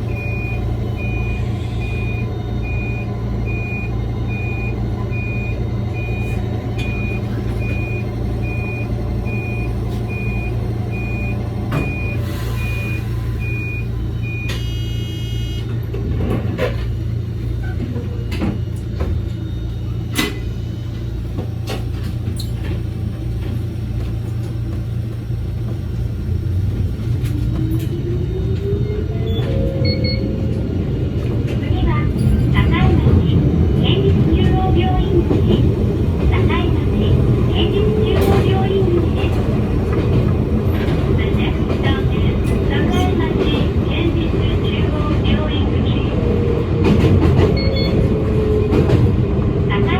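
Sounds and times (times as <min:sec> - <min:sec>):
electric train low hum: 0:00.0 - 0:49.9.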